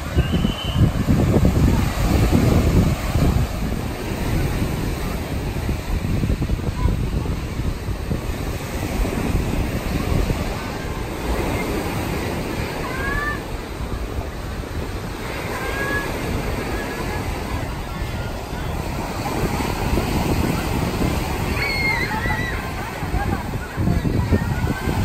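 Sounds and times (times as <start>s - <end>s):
surf on beach: 0.0s - 25.0s
wind on microphone: 0.0s - 25.0s.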